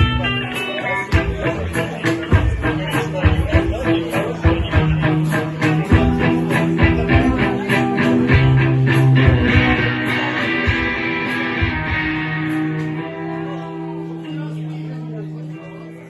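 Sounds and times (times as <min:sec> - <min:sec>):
blues-rock band playing: 0:00.0 - 0:14.6
electric guitar: 0:00.0 - 0:16.0.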